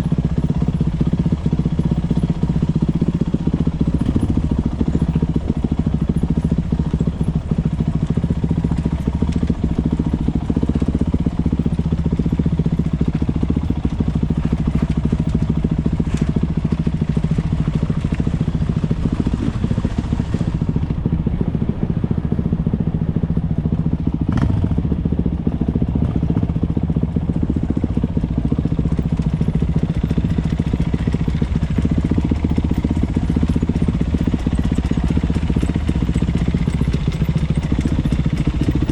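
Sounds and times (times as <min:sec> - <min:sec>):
motocross motorcycle engines running: 0:00.0 - 0:38.9.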